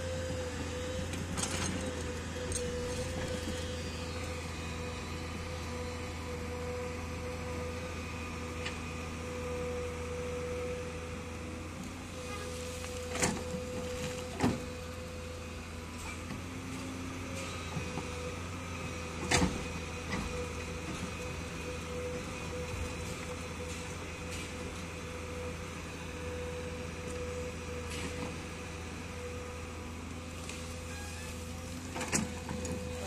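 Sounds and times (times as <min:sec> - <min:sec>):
excavator engine and hydraulic whine: 0:00.0 - 0:33.0.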